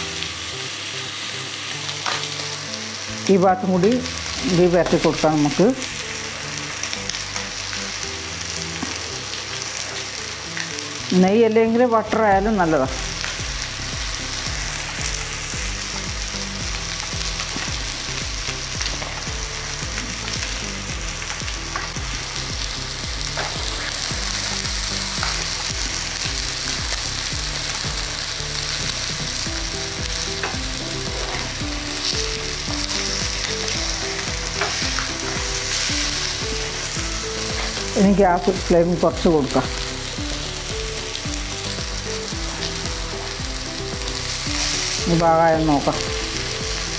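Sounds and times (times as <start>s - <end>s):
chicken sizzling in a pan: 0.0s - 46.9s.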